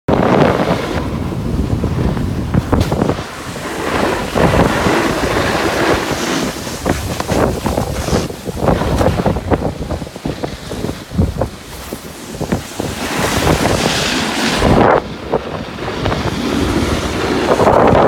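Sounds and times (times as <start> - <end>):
snowboard edges scraping snow: 0.1 - 18.0
wind buffeting microphone: 0.1 - 18.0.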